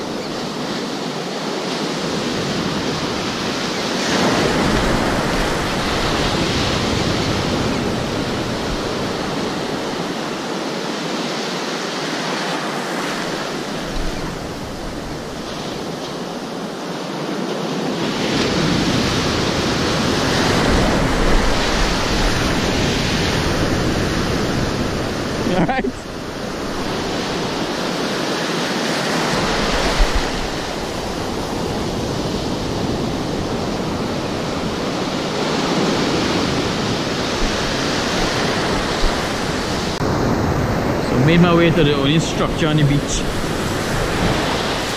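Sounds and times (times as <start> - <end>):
waves breaking on beach: 0.0 - 44.9.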